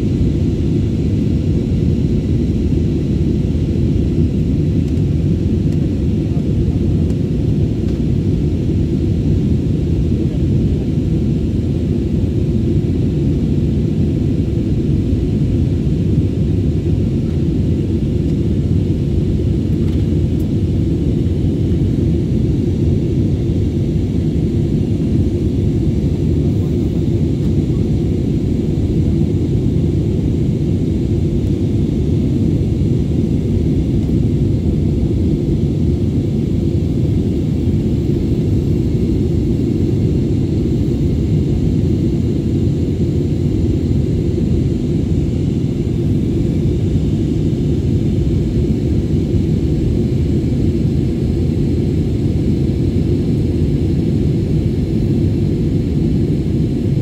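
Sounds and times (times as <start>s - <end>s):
jet airliner cabin rumble: 0.0s - 57.0s.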